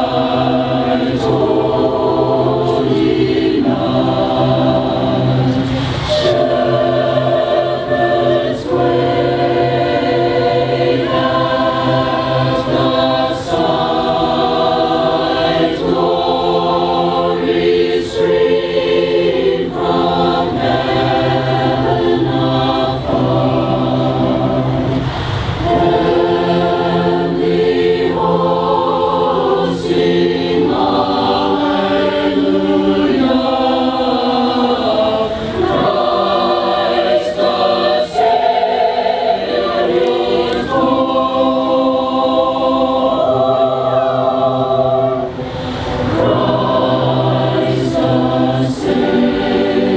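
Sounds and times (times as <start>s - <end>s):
choir singing a cappella: 0.0s - 49.9s.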